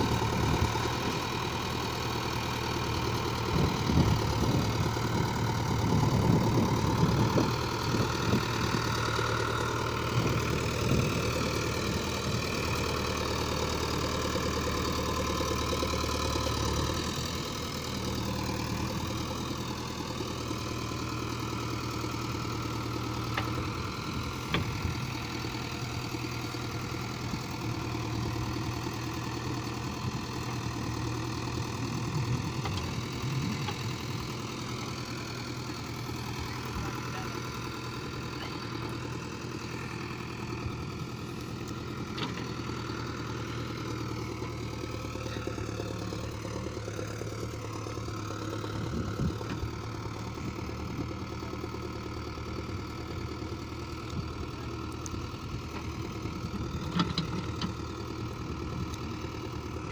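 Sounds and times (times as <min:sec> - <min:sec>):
backhoe diesel engine running: 0:00.0 - 0:59.9
tractor diesel engine idling: 0:00.0 - 0:59.9.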